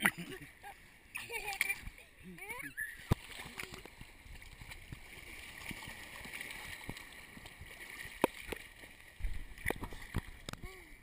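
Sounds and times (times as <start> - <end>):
water sloshing and splashing: 1.1 - 10.8.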